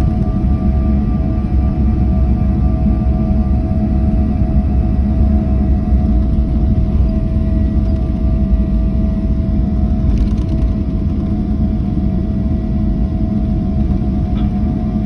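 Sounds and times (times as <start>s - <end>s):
jet engines humming in cabin: 0.0s - 15.0s.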